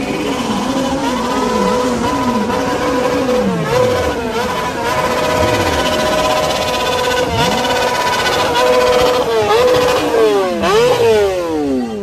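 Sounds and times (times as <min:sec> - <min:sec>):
motorcycles revving: 0:00.0 - 0:12.0.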